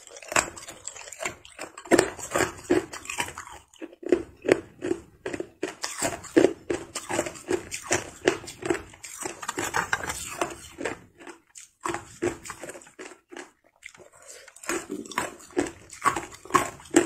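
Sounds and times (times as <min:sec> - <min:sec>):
ice crunching between teeth: 0:00.0 - 0:17.0.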